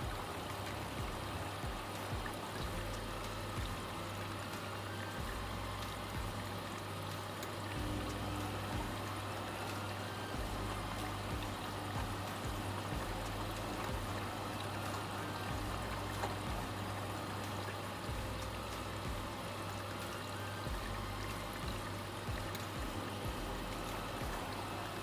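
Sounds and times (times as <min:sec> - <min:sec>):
washing machine motor hum: 0:00.0 - 0:25.0
water splashing in washing machine: 0:00.0 - 0:25.0.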